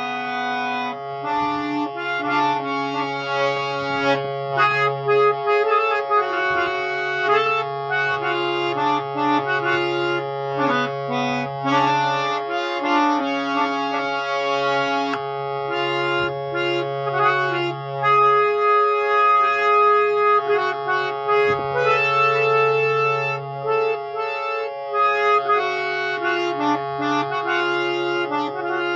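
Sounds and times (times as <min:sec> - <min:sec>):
harmonium melody: 0:00.0 - 0:28.9.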